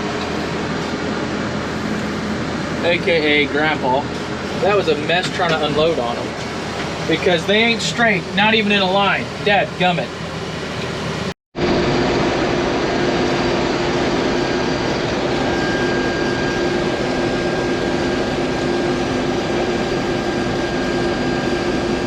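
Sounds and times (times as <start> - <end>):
combine harvester running: 0.0 - 22.0
thin steady whine: 0.0 - 22.0.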